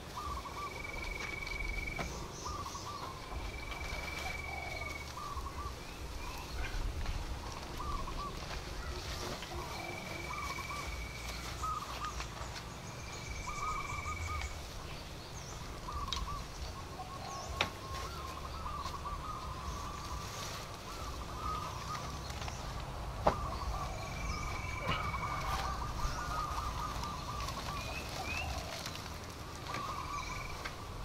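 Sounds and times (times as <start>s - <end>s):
birds warbling calls: 0.0s - 31.0s.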